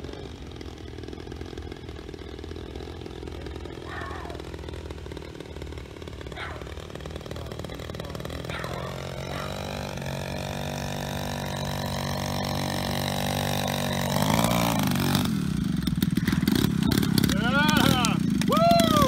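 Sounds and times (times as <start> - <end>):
model airplane engine and propeller: 0.0 - 19.0
wheels clattering on grass: 0.0 - 19.0.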